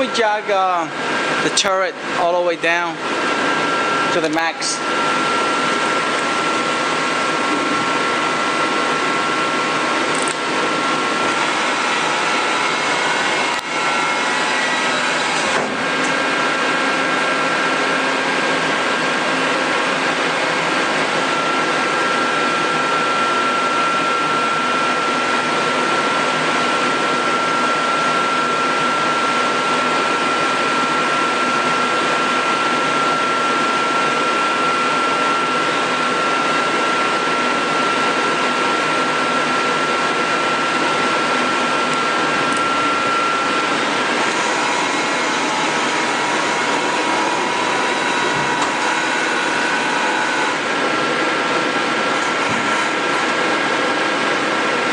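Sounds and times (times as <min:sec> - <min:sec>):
high steady whine: 0:00.0 - 0:54.9
lathe machine whirring: 0:00.0 - 0:54.9.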